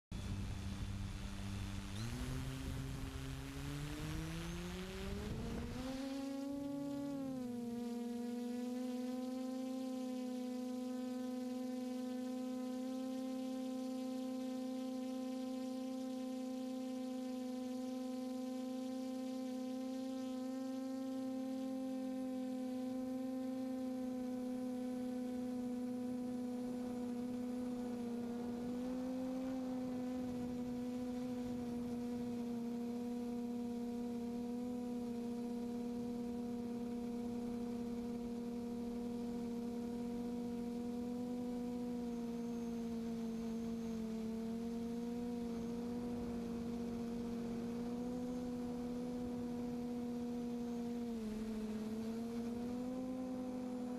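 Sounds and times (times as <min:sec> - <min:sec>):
drone motors humming: 0:00.1 - 0:53.9.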